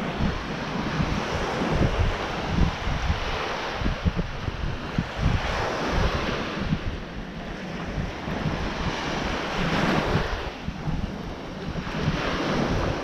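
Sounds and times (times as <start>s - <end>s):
surf washing onto sandy beach: 0.0s - 13.0s
wind gusting on the microphone: 0.0s - 13.0s.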